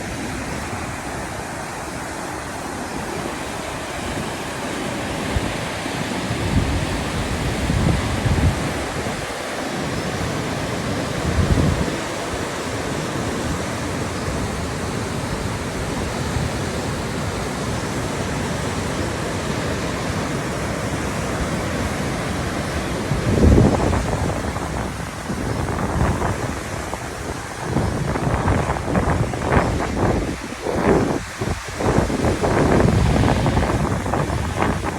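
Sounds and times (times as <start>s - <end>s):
waterfall roaring: 0.0s - 34.9s
wind buffeting microphone: 3.0s - 34.9s.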